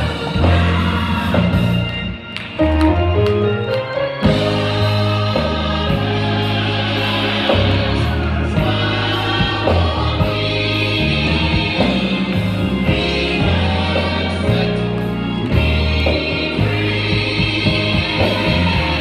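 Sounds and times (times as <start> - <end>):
bass line: 0.0 - 3.2, 4.2 - 19.0
gospel choir singing: 0.0 - 19.0
instrumental accompaniment: 0.0 - 19.0.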